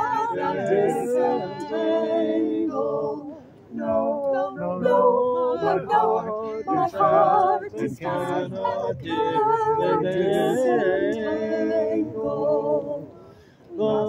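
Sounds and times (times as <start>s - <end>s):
a cappella choir singing: 0.0s - 14.0s.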